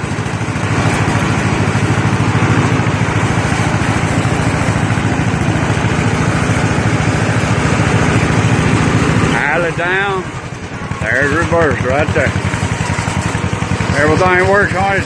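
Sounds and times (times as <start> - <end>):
tractor engine pulsing: 0.0 - 15.0.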